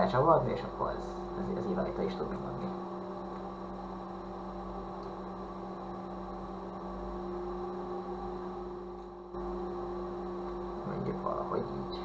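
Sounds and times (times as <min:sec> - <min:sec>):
faint high whine: 0:00.0 - 0:12.0
steady electrical hum: 0:00.0 - 0:12.0.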